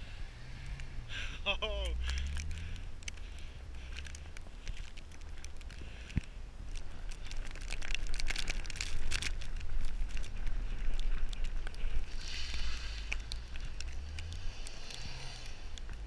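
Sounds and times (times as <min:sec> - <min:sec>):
steady low rumble: 0:00.0 - 0:16.0
tyres spinning in snow: 0:00.0 - 0:16.0
crackling ticks: 0:00.6 - 0:16.0.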